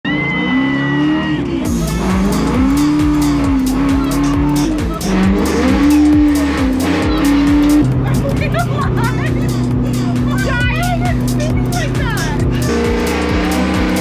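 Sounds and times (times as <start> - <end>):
car engine at high revs: 0.0 - 14.0
music with steady beat: 1.7 - 14.0.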